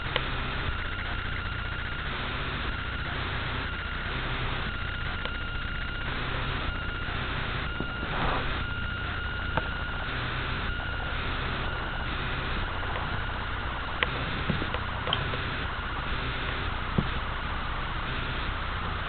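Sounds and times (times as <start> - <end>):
small clicks: 0.0 - 13.2, 14.0 - 17.2
low hum and hiss: 0.0 - 19.0
thin steady whine: 0.0 - 19.0.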